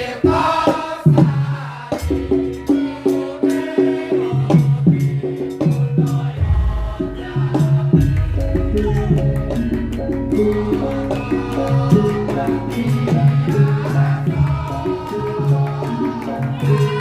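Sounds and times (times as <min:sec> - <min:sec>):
drum and percussion rhythm: 0:00.0 - 0:17.0
gamelan music: 0:02.0 - 0:17.0.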